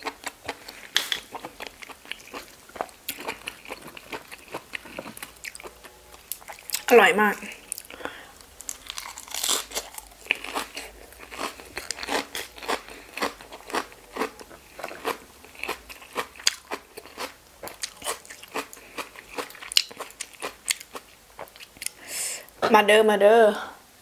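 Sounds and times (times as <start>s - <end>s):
crunchy chewing: 0.0s - 6.9s, 7.7s - 22.0s.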